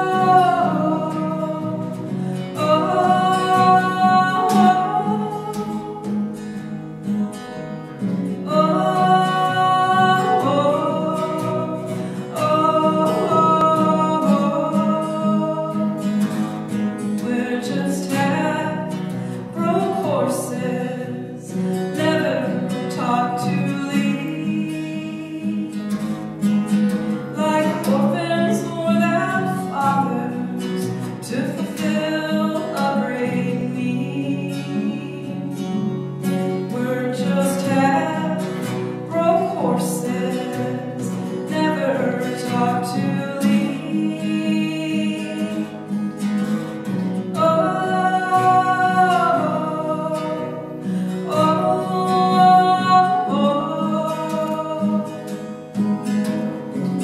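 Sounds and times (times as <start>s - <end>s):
woman singing: 0.0s - 26.2s, 27.1s - 57.0s
strummed acoustic guitar: 0.0s - 57.0s.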